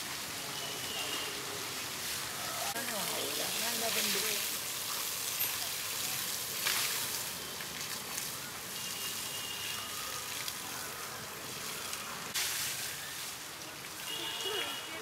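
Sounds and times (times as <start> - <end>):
hose water spraying: 0.0 - 15.0.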